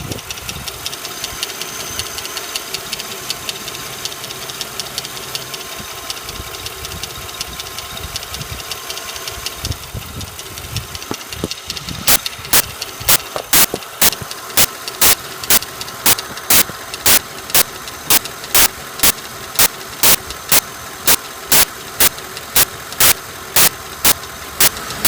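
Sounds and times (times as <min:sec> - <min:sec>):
car engine idling: 0:00.0 - 0:25.0
sharp engine ticking: 0:00.0 - 0:25.0.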